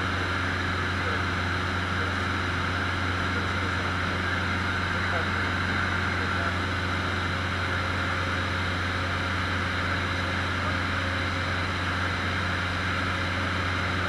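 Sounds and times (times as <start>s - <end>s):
light aircraft engine in cabin: 0.0s - 14.0s.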